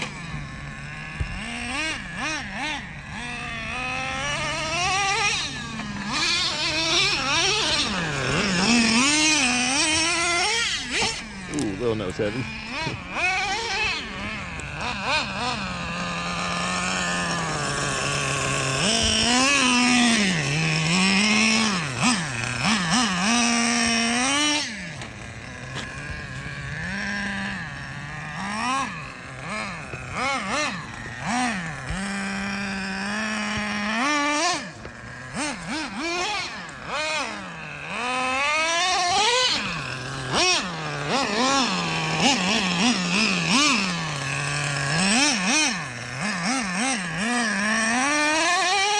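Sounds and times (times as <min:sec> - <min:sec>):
small engine revving: 0:00.0 - 0:48.9.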